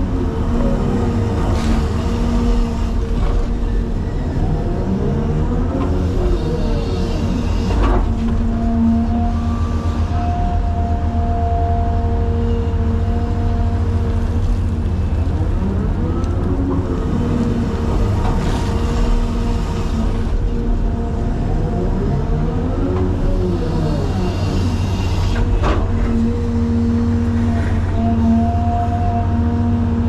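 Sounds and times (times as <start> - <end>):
diesel engine rumbling: 0.0 - 30.0
hydraulics whining: 0.0 - 30.0.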